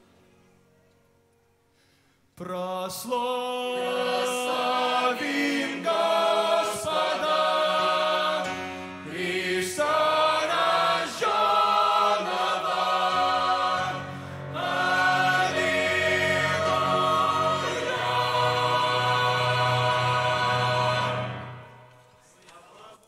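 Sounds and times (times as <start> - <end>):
mixed choir singing a hymn: 3.2 - 23.0.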